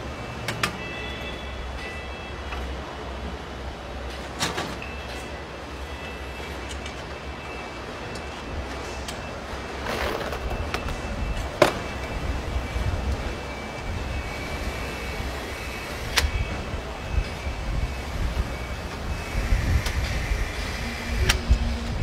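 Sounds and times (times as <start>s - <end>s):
factory machinery humming: 0.0s - 22.0s.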